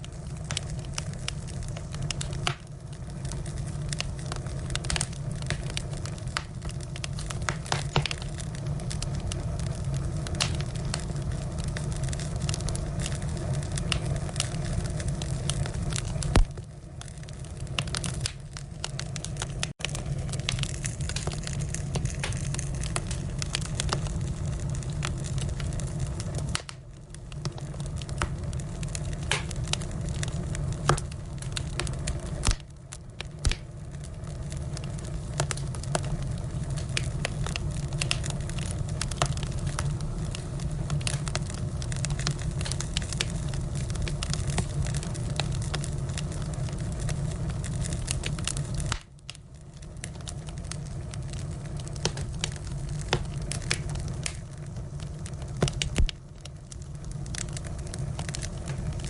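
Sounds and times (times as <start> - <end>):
firewood crackling and popping: 0.0 - 59.0
low rumble of flames: 0.0 - 59.0.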